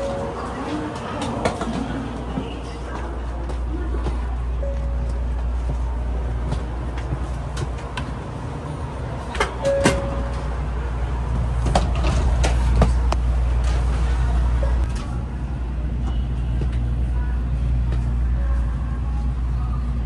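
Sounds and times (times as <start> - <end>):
train car low rumble: 0.0 - 20.0.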